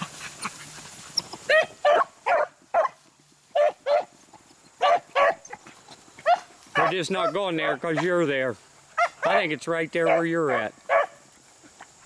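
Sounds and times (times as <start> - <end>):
beagles barking: 0.0 - 11.9.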